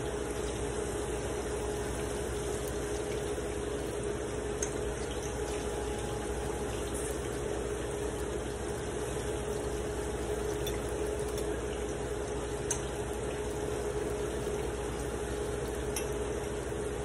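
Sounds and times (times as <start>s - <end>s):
steady hum: 0.0s - 17.0s
food sizzling in a frying pan: 0.1s - 16.6s.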